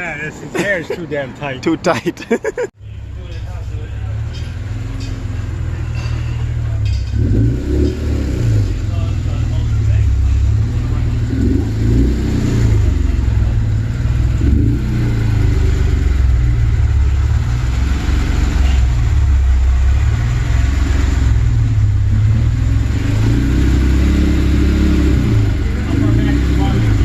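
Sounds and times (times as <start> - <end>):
car engine exhaust rumble: 2.8 - 27.0.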